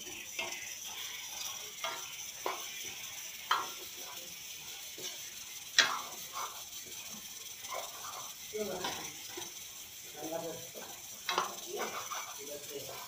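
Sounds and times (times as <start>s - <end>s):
potatoes sizzling in oil: 0.0s - 13.0s
spoon knocking and scraping pan: 0.0s - 13.0s.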